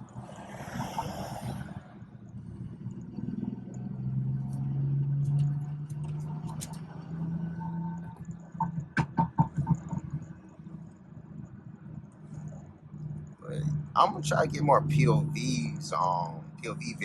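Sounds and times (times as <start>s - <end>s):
car engine pulling: 0.0s - 17.0s
exhaust pops and crackles: 1.8s - 17.0s.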